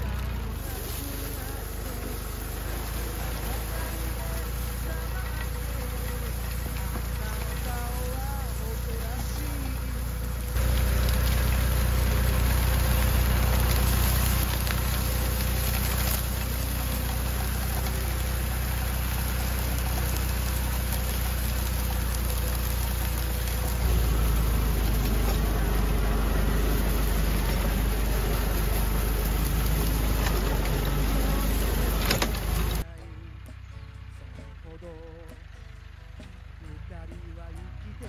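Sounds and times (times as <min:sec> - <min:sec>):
tractor engine humming: 0:00.0 - 0:38.0.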